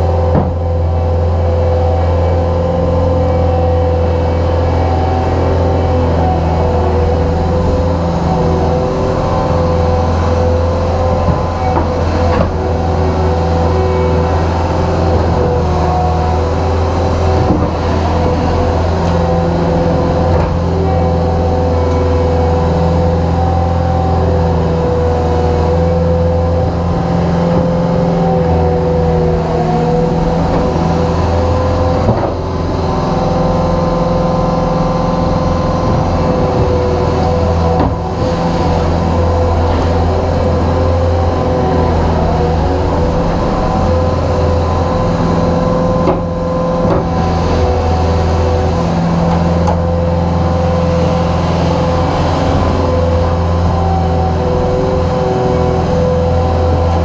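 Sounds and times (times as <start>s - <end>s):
constant whine: 0.0s - 57.0s
diesel loader engine running: 0.0s - 57.0s.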